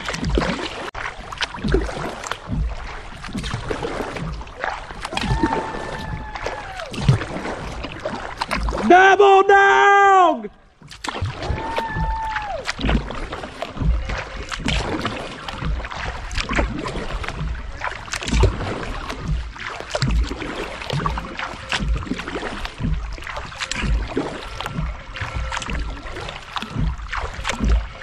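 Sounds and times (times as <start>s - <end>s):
water dripping: 0.0s - 9.2s, 10.4s - 28.0s
kayak paddle splashing: 0.0s - 28.0s.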